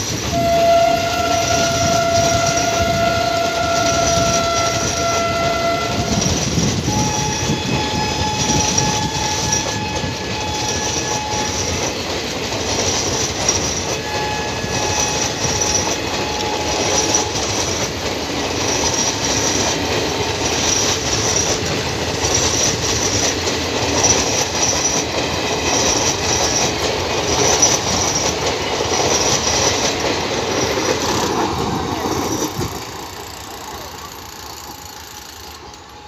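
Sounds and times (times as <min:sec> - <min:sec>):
train coaches rumbling on rails: 0:00.0 - 0:36.0.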